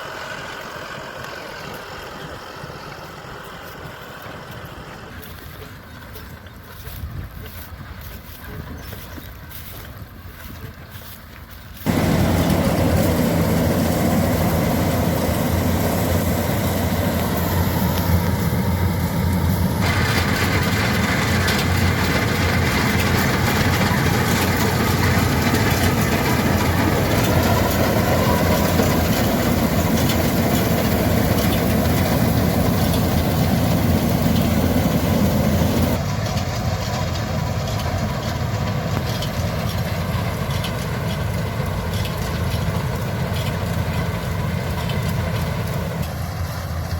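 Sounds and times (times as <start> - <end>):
harvester engine running: 0.0 - 46.9.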